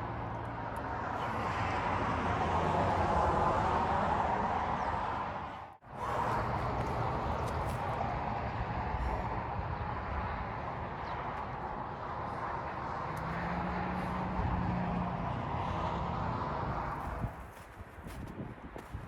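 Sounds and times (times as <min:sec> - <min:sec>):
blizzard wind roaring: 0:00.0 - 0:19.0.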